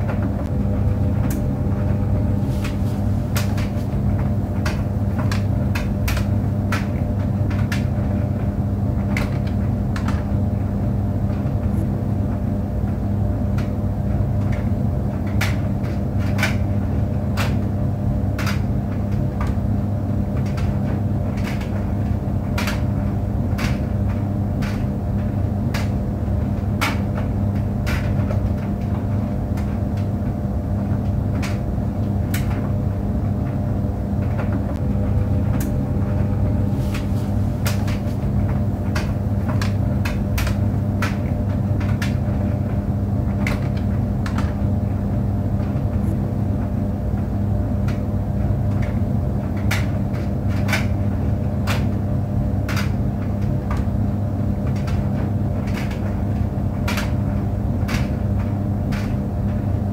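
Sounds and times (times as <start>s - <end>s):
tumble dryer humming: 0.0s - 59.9s.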